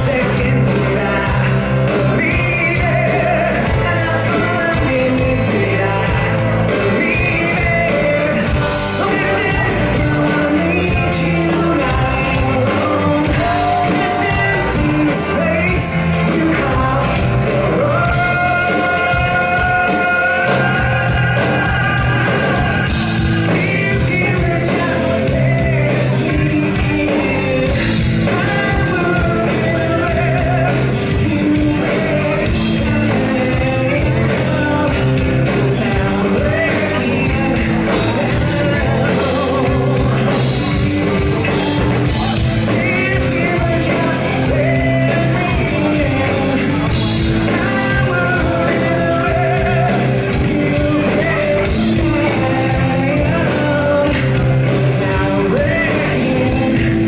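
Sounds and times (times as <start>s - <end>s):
man singing: 0.0s - 57.0s
rock band playing live: 0.0s - 57.0s.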